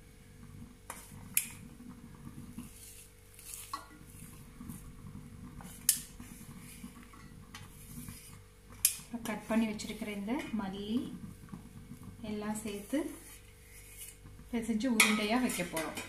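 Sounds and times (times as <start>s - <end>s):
faint steady hum: 0.0s - 16.0s
hand squishing batter in bowl: 2.4s - 15.8s.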